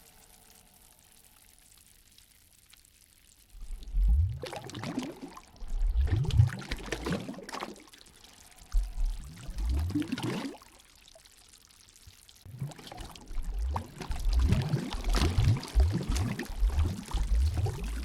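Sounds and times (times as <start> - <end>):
water gurgling and sloshing: 3.4 - 18.0.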